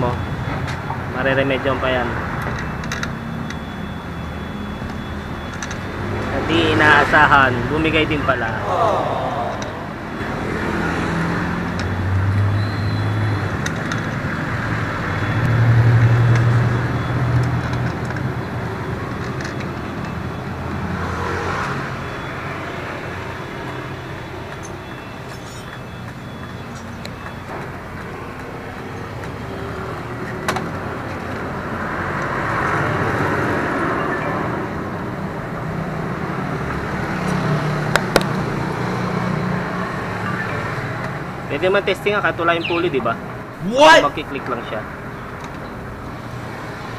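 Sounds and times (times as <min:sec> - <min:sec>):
passing road traffic: 0:00.0 - 0:46.9.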